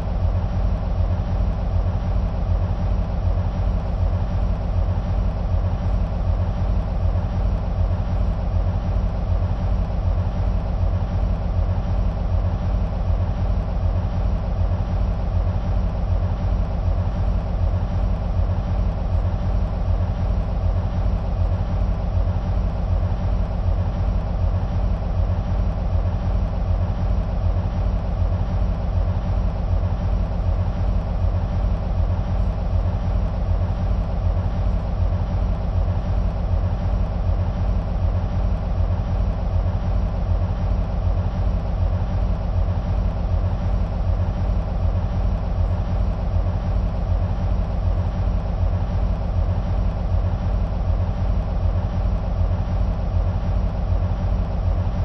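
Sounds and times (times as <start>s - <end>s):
diesel locomotive engines idling: 0.0s - 55.0s.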